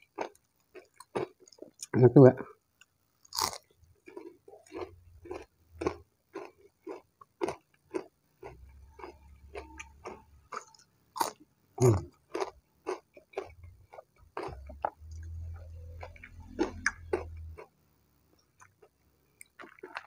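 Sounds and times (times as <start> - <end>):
crunchy chewing: 0.0 - 1.9, 2.8 - 17.7, 18.3 - 20.0.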